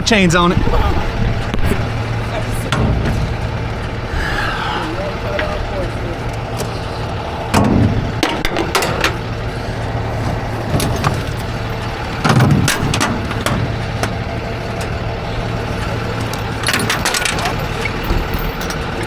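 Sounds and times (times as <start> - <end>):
tow truck engine idling: 0.0 - 19.0.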